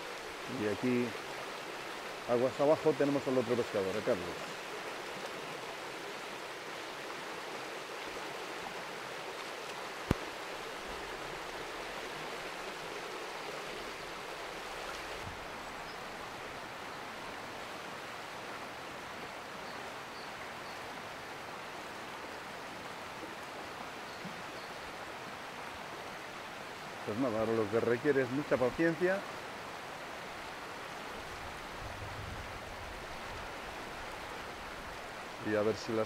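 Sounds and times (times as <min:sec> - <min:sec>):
river rushing over stones: 0:00.0 - 0:36.0.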